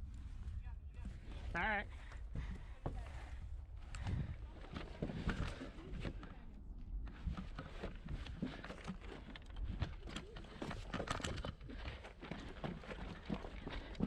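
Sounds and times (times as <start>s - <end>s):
footsteps on dirt: 0.0s - 6.4s, 7.1s - 14.0s
gear and clothing rustling: 0.0s - 14.0s.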